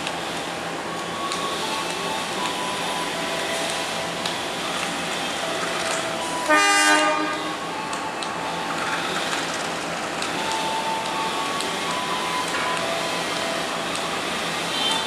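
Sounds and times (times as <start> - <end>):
locomotive running: 0.0 - 15.0.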